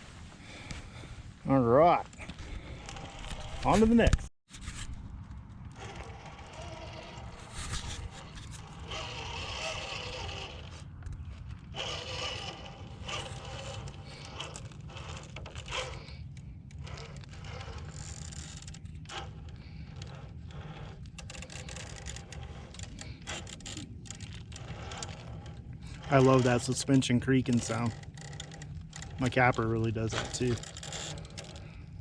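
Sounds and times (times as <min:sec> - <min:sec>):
toy car suspension creaking: 0:01.9 - 0:04.9, 0:05.6 - 0:32.0
scraping and rubbing: 0:01.9 - 0:32.0.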